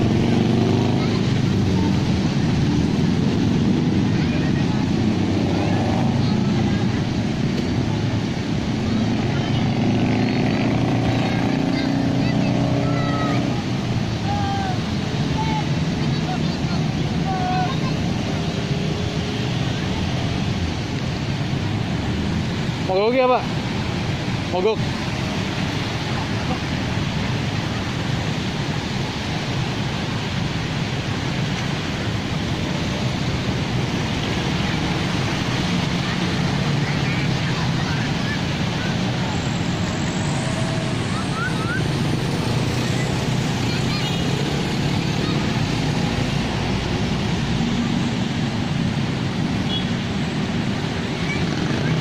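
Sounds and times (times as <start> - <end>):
motorbikes driving through floodwater: 0.0 - 52.0
water splashing around wheels: 0.0 - 52.0.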